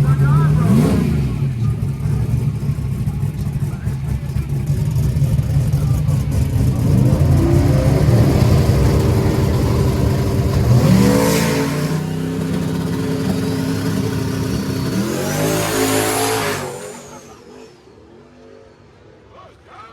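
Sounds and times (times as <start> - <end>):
car engine accelerating: 0.0 - 18.6.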